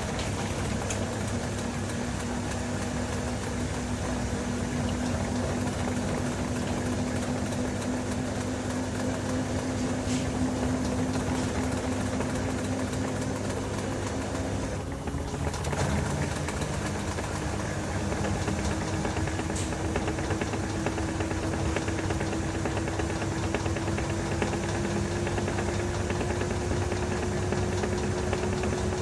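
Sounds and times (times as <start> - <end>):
washing machine churning bedding: 0.0 - 29.0
washing machine motor hum: 0.0 - 29.0.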